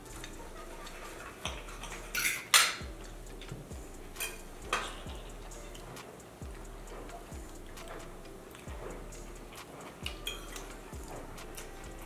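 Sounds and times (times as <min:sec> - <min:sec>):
cutlery scraping on plates: 0:00.2 - 0:11.8.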